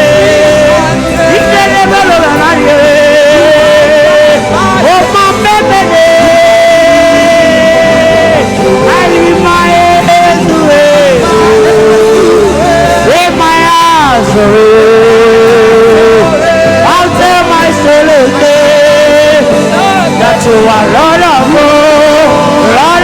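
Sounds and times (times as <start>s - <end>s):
instrumental accompaniment: 0.0s - 23.0s
person singing long wavering notes: 0.0s - 23.0s.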